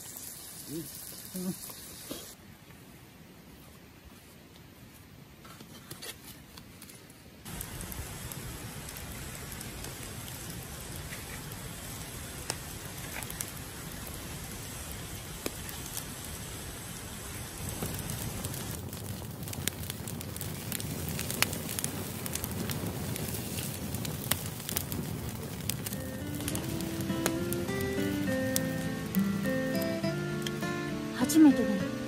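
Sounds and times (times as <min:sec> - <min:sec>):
clams sizzling on grill: 0:00.0 - 0:02.4, 0:07.5 - 0:32.0
sharp crackles: 0:05.6 - 0:31.8.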